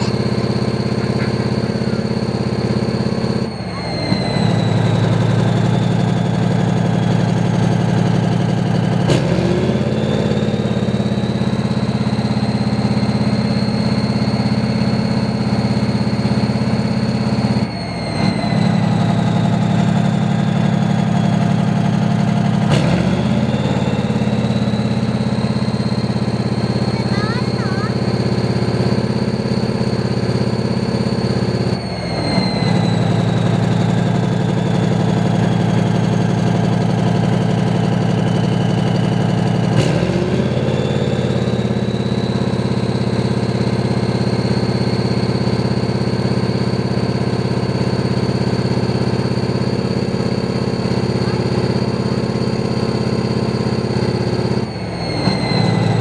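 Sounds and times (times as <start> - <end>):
high whine: 0.0 - 56.0
tank engine running: 0.0 - 56.0.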